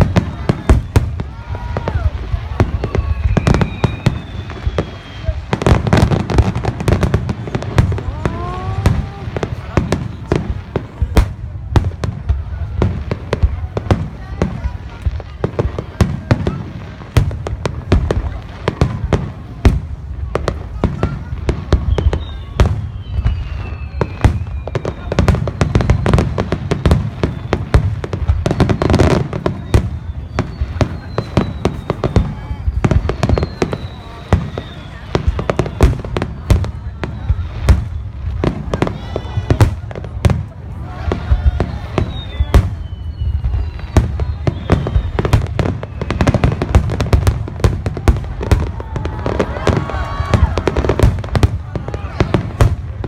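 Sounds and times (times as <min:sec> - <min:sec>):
faint firework whistles: 0:00.0 - 0:53.0.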